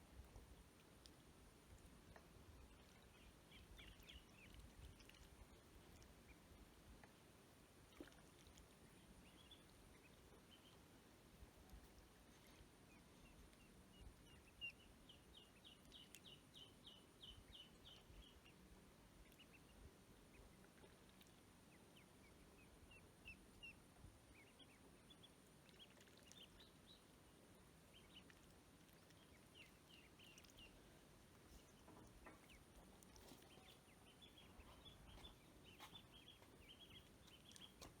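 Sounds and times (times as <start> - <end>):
ducklings peeping: 0.3 - 38.0.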